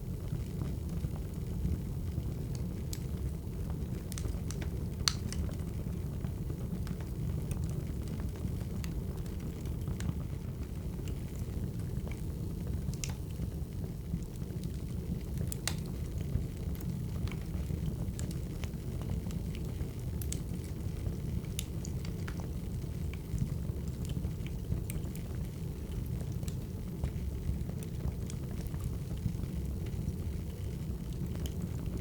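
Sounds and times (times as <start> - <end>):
fire pops and snaps: 2.4 - 3.2, 3.8 - 5.6, 6.8 - 13.6, 14.2 - 32.0
burning logs rumbling: 3.2 - 32.0.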